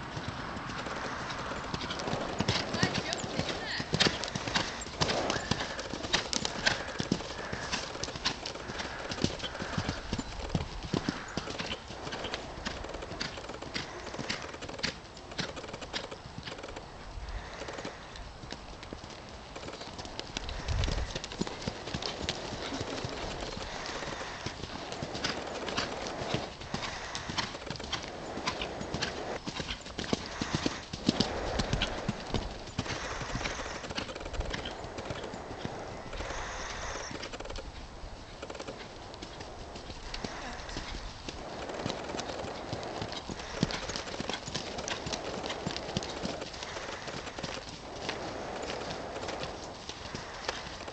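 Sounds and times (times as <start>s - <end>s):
horse hooves on sand: 0.0s - 50.9s.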